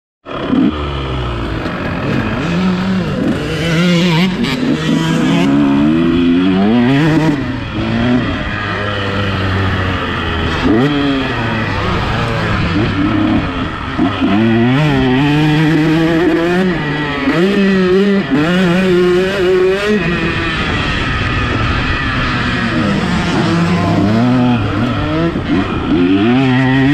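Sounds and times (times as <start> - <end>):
motocross bike engine revving: 0.3 - 26.9.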